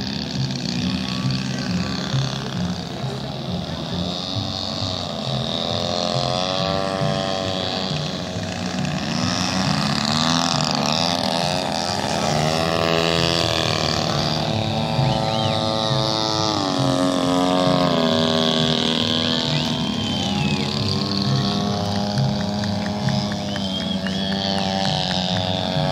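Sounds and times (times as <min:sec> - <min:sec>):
model airplane engines: 0:00.0 - 0:25.9.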